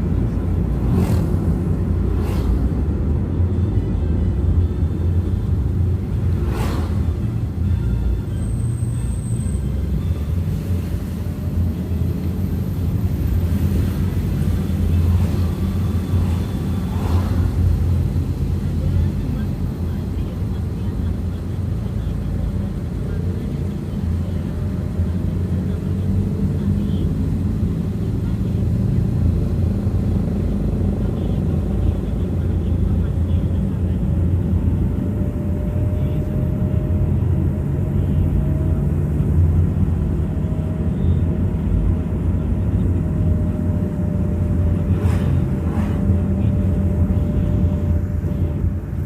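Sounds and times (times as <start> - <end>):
vehicle engine and road rumble: 0.0 - 49.0.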